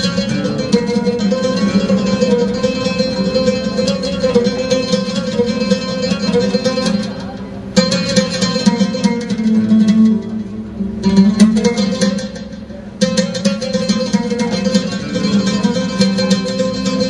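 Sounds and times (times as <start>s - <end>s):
oud plucked notes: 0.0s - 17.0s.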